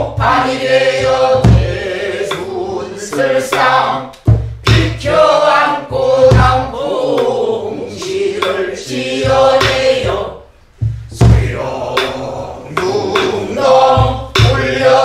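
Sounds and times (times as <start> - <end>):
barrel drum beats: 0.0 - 15.0.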